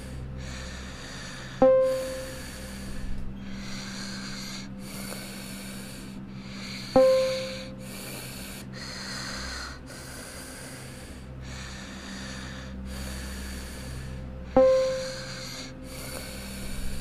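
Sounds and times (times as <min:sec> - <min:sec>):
elevator hum: 0:00.0 - 0:17.0.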